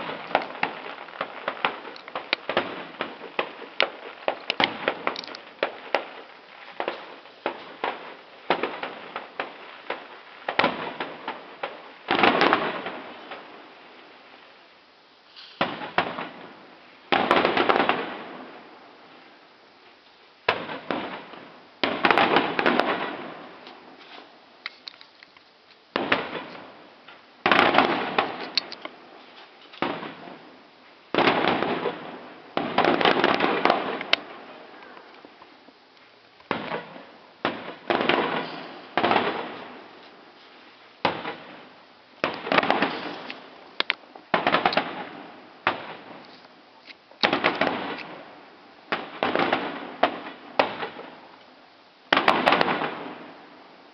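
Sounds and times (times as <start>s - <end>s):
fireworks bursting with crackling: 0.0s - 53.9s.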